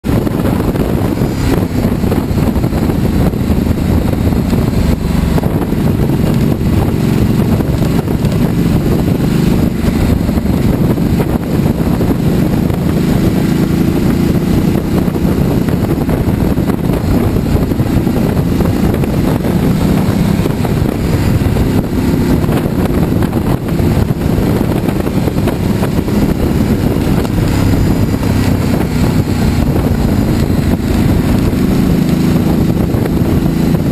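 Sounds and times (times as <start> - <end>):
motorcycle engine running: 0.0 - 33.9
wind noise: 0.0 - 33.9.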